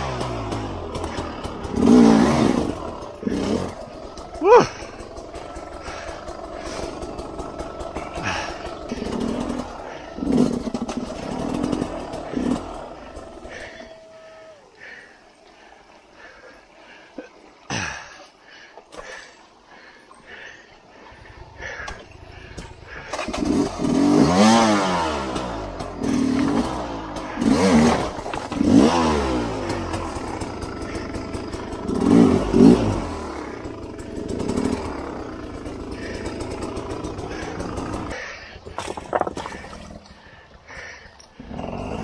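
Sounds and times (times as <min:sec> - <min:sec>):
dirt bike engine revving: 0:00.0 - 0:16.4, 0:21.5 - 0:42.0.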